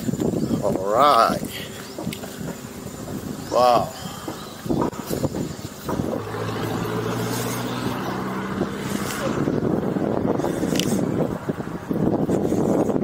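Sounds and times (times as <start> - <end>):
engine humming: 0.0 - 13.0
wind rumbling on microphone: 0.0 - 13.0.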